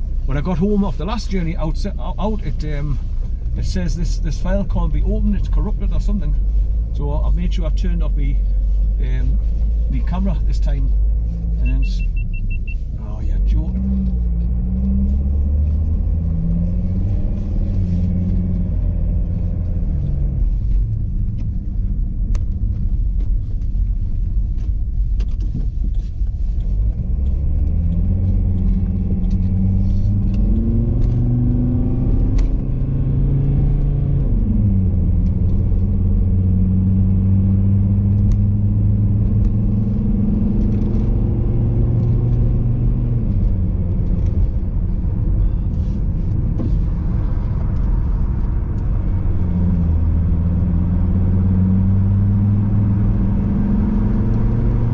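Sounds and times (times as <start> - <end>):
car engine from inside cabin: 0.0 - 54.9
road rumble: 0.0 - 54.9.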